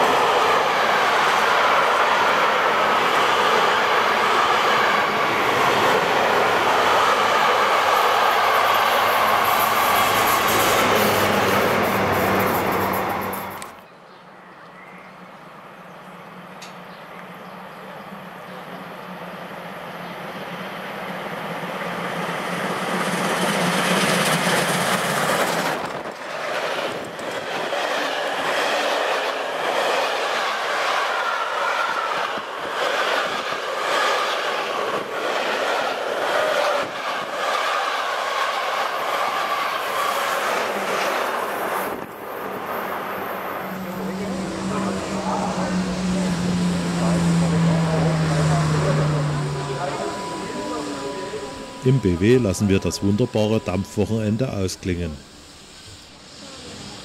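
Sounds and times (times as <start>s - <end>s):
steam locomotive approaching: 0.0s - 57.0s.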